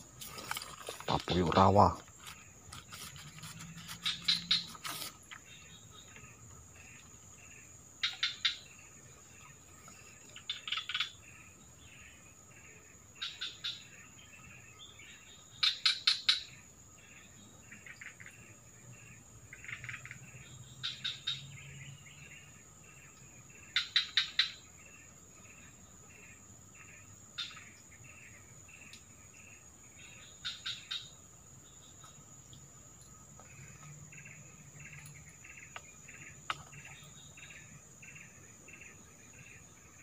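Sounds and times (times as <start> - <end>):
high insect drone: 0.0 - 40.0.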